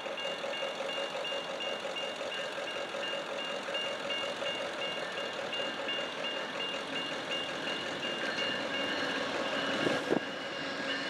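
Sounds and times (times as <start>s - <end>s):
crossing warning bell ringing: 0.0s - 11.0s.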